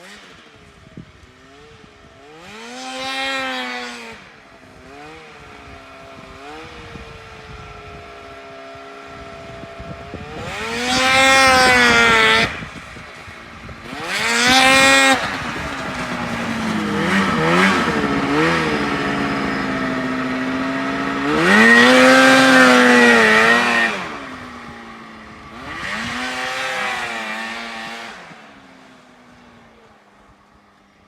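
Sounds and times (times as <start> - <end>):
snowmobile engine revving: 0.0 - 30.2.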